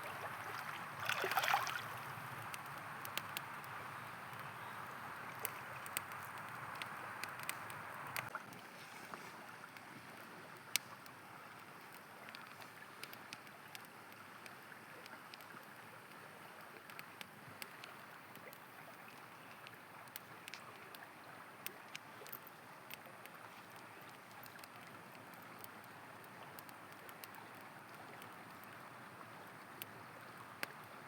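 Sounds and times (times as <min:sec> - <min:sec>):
campfire crackling and popping: 0:00.0 - 0:08.6, 0:09.6 - 0:31.0
river flowing: 0:00.0 - 0:31.0.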